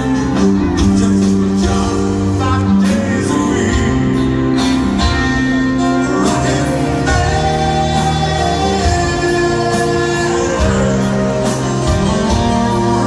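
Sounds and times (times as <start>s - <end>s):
live band music: 0.0s - 13.0s
person singing: 0.0s - 13.0s
steady drum beat: 0.0s - 13.0s.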